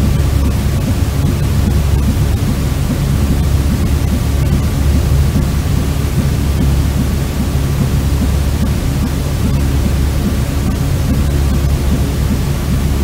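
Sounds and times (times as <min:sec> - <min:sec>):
deep white noise: 0:00.0 - 0:13.0.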